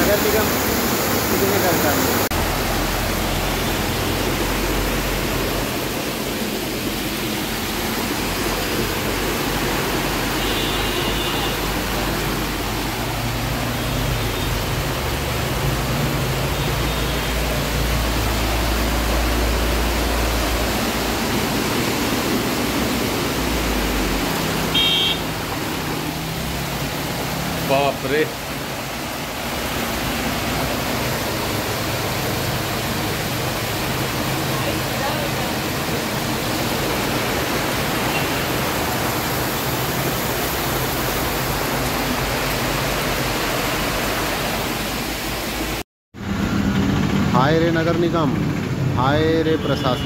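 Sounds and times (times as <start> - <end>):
floodwater rushing: 0.0 - 45.8
vehicles driving through water: 0.0 - 50.0.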